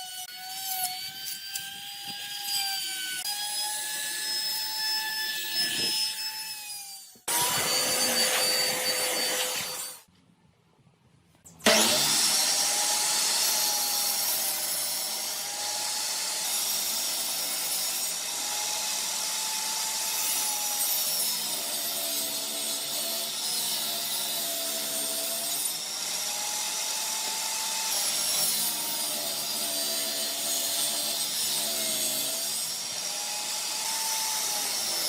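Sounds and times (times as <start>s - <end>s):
power tool cutting wood: 0.0s - 10.1s, 11.6s - 35.0s.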